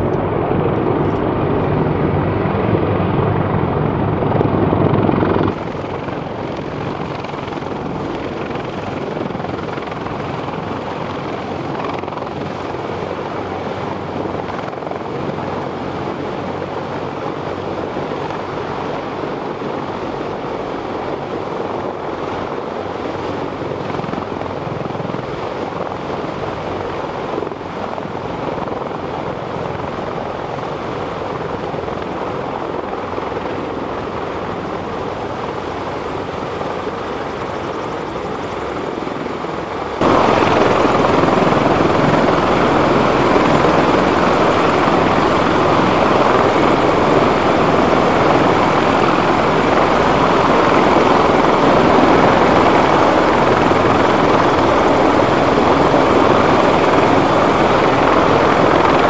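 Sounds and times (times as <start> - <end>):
helicopter rotor and engine noise: 0.0 - 59.0.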